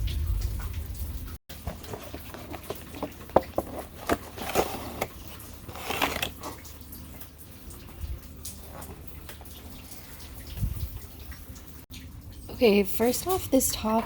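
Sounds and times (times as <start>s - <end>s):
rain dripping: 0.0s - 14.0s.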